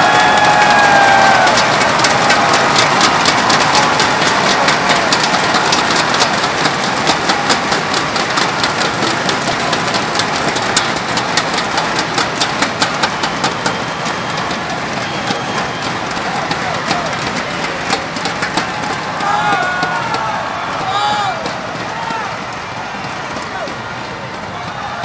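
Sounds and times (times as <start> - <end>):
crowd cheering: 0.0 - 25.0.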